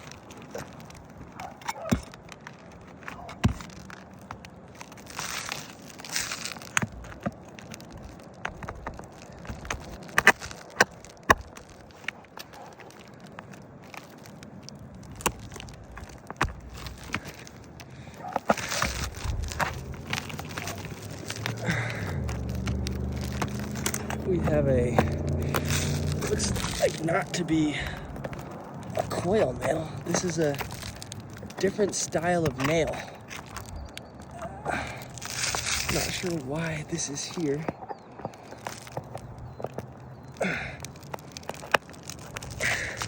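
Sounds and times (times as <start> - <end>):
nails prying out of shingles: 0.0 - 36.3
scraping: 0.0 - 43.0.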